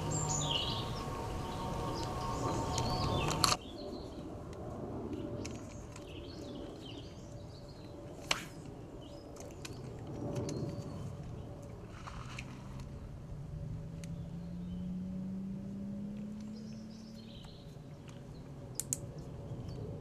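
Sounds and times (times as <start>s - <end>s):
small birds chirping: 0.0s - 4.3s, 5.2s - 11.7s, 13.9s - 15.5s, 16.2s - 20.0s.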